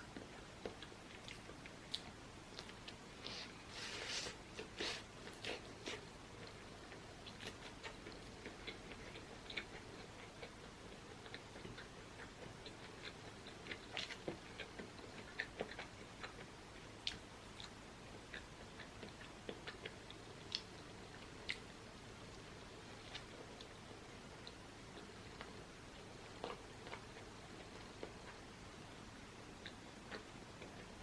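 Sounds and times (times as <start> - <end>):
person chewing food: 0.0 - 28.5, 29.6 - 31.0.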